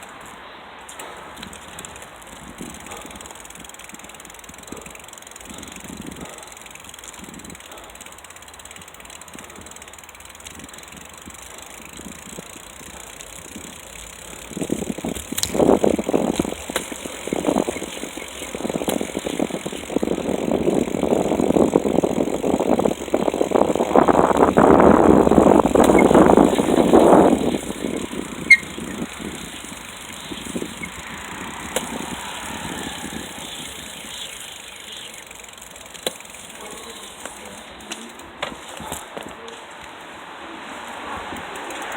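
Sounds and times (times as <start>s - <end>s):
bicycle rattling over rough path: 0.0s - 41.9s
bicycle rolling noise: 0.0s - 41.9s.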